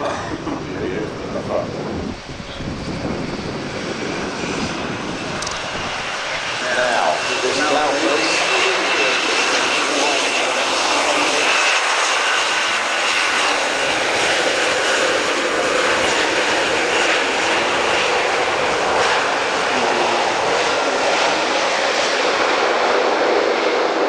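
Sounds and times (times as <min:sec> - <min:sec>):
turboprop engines running: 0:00.0 - 0:24.0.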